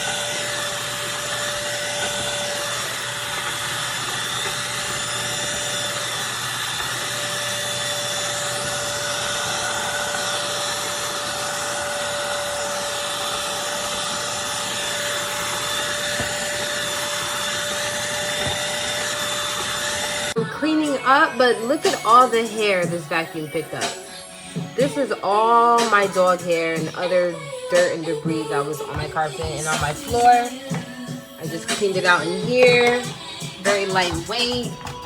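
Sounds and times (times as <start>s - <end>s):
stick vacuum running: 0.0s - 35.0s.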